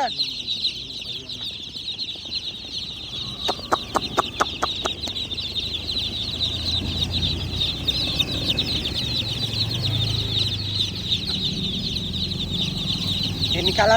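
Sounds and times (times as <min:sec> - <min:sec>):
chicks peeping: 0:00.0 - 0:13.9.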